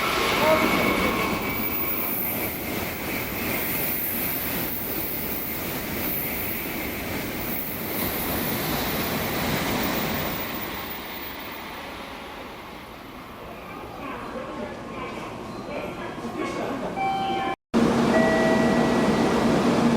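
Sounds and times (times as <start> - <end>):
train rushing through station: 0.0 - 19.9.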